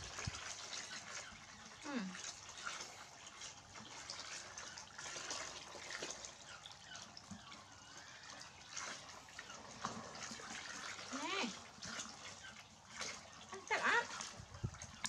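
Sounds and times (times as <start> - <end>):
water pouring from hose into basin: 0.0 - 15.0.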